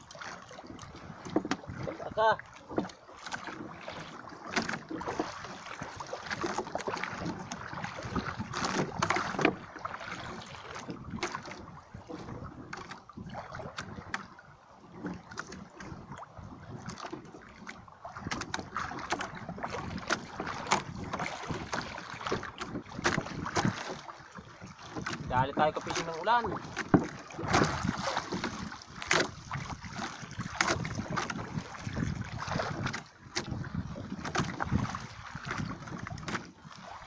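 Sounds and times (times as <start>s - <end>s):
rustling and knocks in wooden boat: 0.0s - 37.0s.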